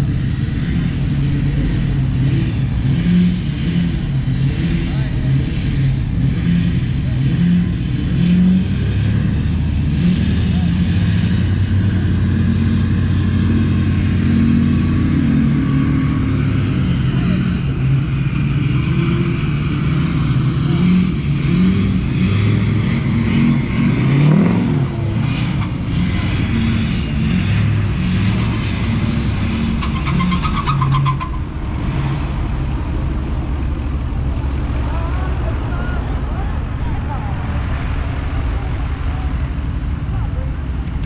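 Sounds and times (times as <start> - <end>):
truck engines revving: 0.0 - 41.0.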